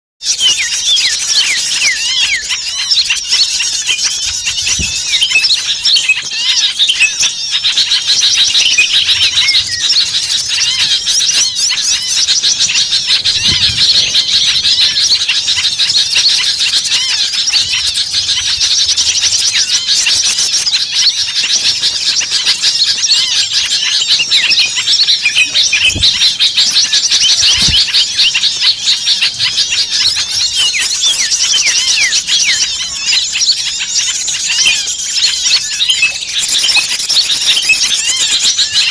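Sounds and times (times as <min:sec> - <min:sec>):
songbirds chirping and twittering: 0:00.2 - 0:38.9.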